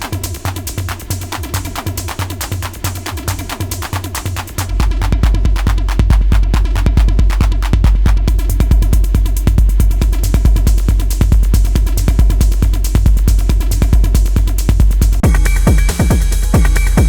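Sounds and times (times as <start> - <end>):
fast hi-hats and percussion: 0.0 - 17.0
techno kick drum: 0.0 - 17.0.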